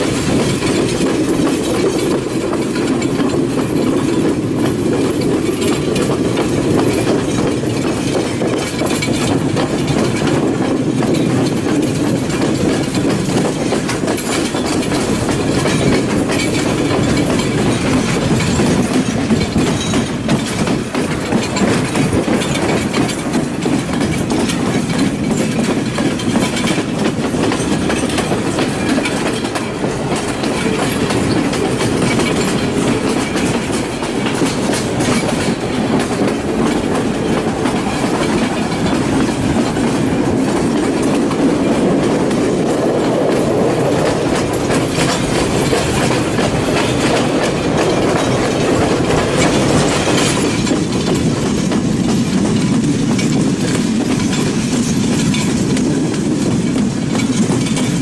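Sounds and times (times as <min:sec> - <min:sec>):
clicks over rail joints: 0:00.0 - 0:58.0
train wheels rumbling: 0:00.0 - 0:58.0.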